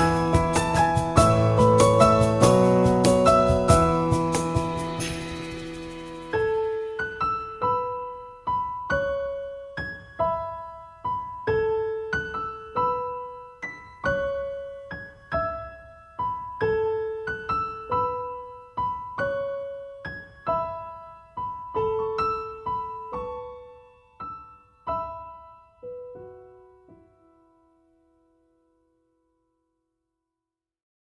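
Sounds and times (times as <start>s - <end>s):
slow piano melody: 0.0s - 29.0s.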